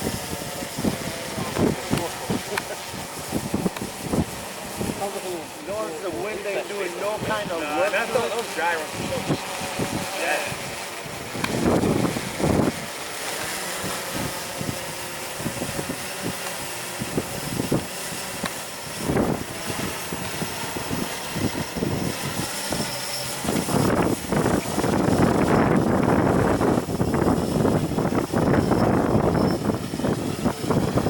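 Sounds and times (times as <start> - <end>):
quadcopter motors humming: 0.0 - 31.0
wind buffeting microphone: 0.0 - 31.0.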